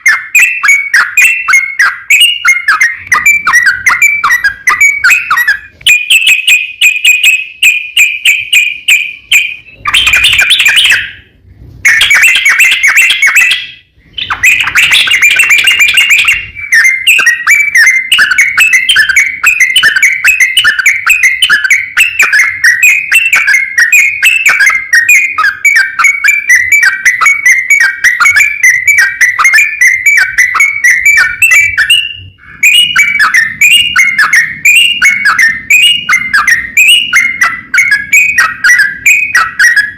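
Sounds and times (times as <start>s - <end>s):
bulbul singing chattering notes: 0.0s - 39.9s.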